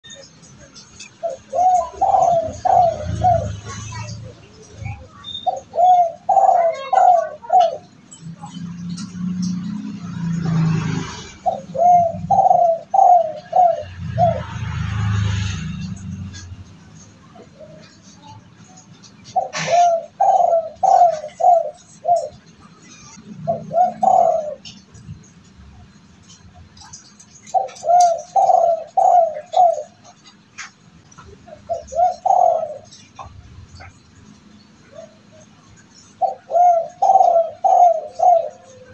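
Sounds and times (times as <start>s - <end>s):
dove cooing: 0.0s - 34.0s, 34.8s - 38.9s.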